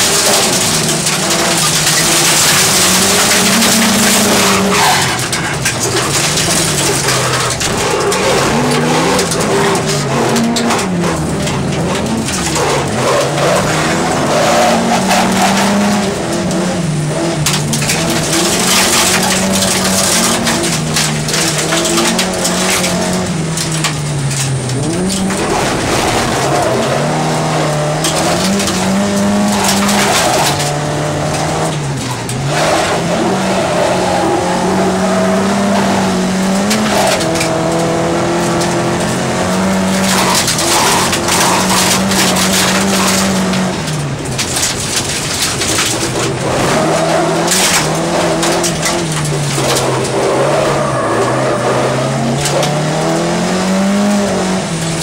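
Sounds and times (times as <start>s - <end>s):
race car engine revving: 0.0s - 55.0s
tyres rushing on dirt: 0.0s - 55.0s.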